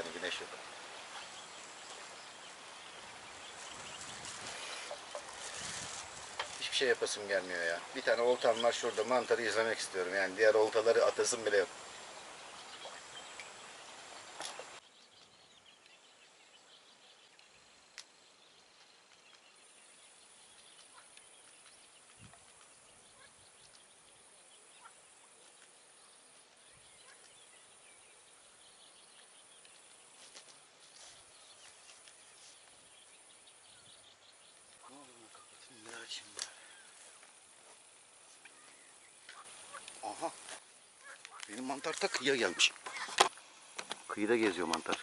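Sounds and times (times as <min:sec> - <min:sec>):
high insect sound: 0:00.0 - 0:14.8, 0:16.2 - 0:45.0
soft bird chirps: 0:00.0 - 0:45.0.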